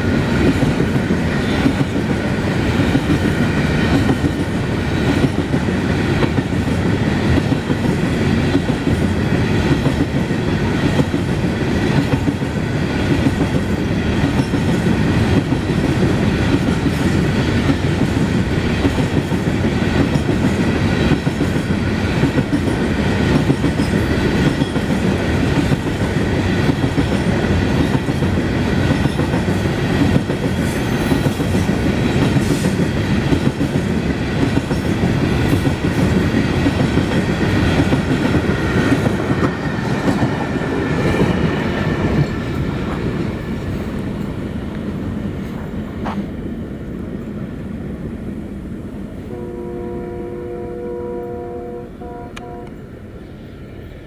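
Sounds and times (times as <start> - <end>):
freight train wheels clattering: 0.0 - 47.4.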